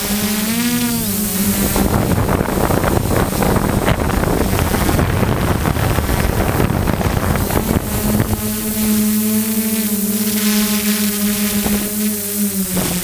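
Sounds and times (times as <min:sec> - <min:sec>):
drone motors humming: 0:00.0 - 0:13.0
wind buffeting microphone: 0:00.0 - 0:13.0.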